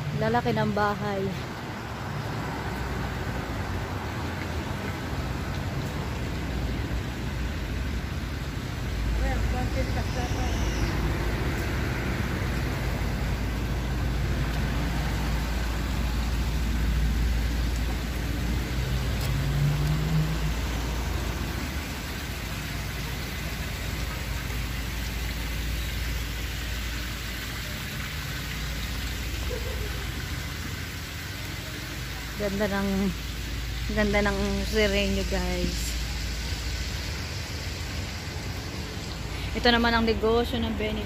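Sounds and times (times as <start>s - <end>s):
vehicle rumble and road noise: 0.0s - 41.0s.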